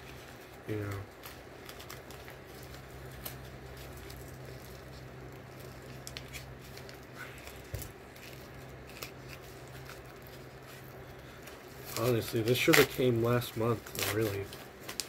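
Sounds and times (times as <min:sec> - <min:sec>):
envelope crinkling and tearing: 0:00.0 - 0:15.0
steady low hum: 0:00.0 - 0:15.0.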